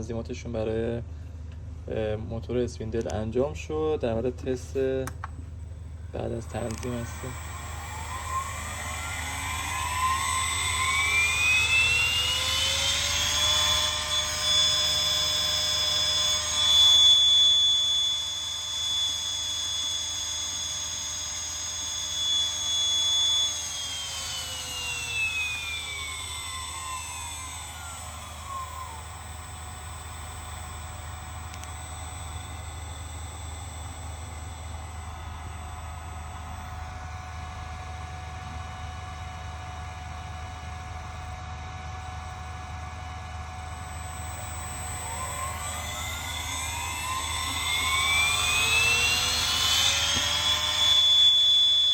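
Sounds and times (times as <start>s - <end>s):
spindle motor whine: 5.1s - 51.9s.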